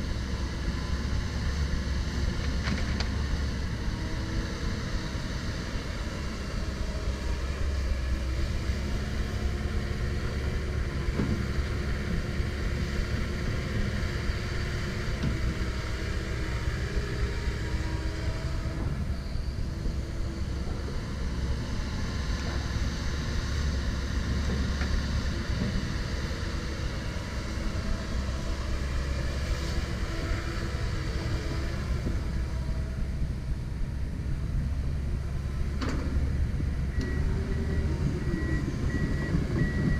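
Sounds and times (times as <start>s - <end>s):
excavator diesel engine rumble: 0.0s - 39.9s.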